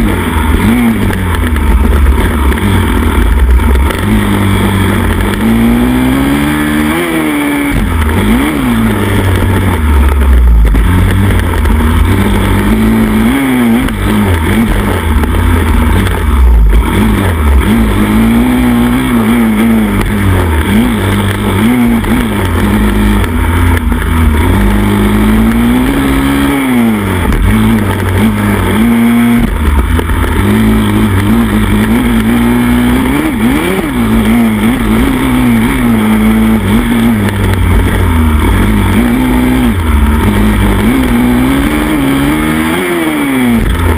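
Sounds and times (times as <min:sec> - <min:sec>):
pit bike engine revving: 0:00.0 - 0:43.9.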